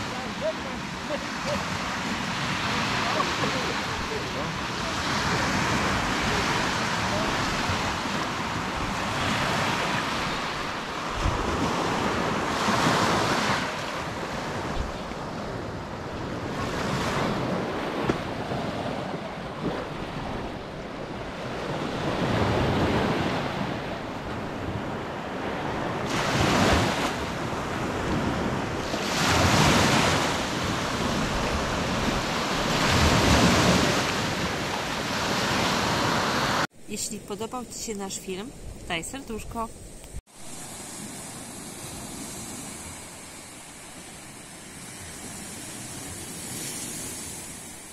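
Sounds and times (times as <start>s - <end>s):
waves breaking on sandy beach: 0.0s - 36.7s, 40.3s - 47.9s.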